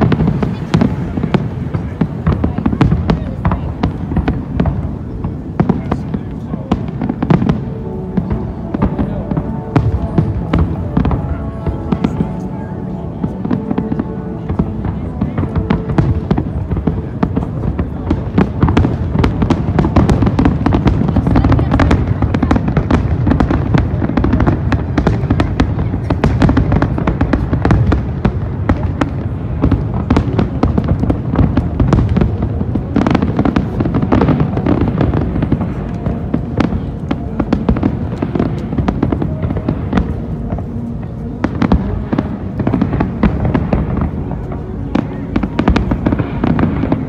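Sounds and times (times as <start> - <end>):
fireworks booming and crackling: 0.0 - 47.0.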